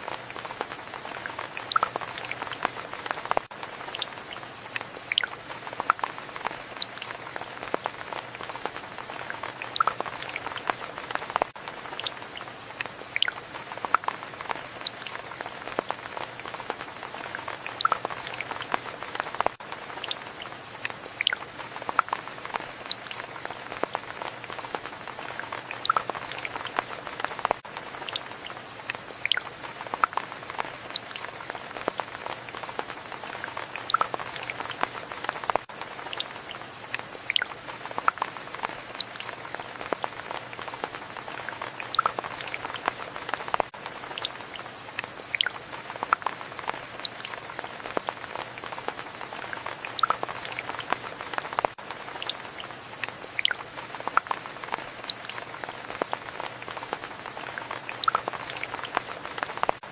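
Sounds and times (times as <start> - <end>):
raindrops dripping: 0.0 - 59.9
soft rain hiss: 0.0 - 59.9.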